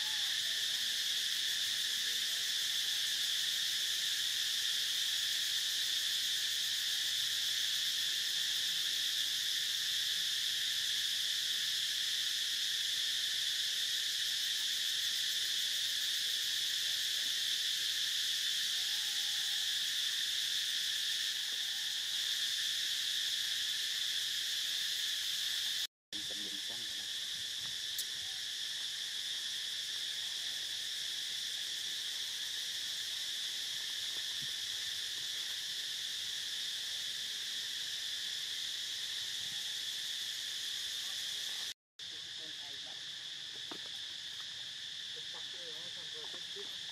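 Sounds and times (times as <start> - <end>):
crickets and cicadas chorus: 0.0 - 46.9.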